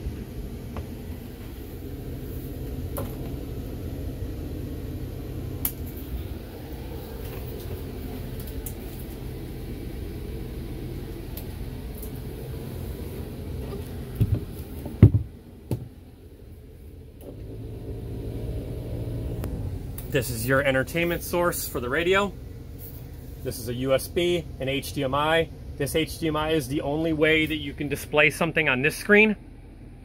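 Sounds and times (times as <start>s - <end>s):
van engine humming: 0.0s - 30.0s.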